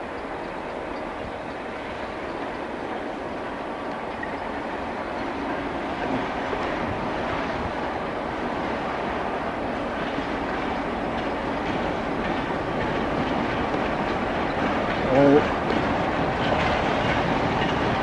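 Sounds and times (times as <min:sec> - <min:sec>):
train wheels rumbling on rail: 0:00.0 - 0:18.0
faint clickety-clack: 0:00.1 - 0:18.0.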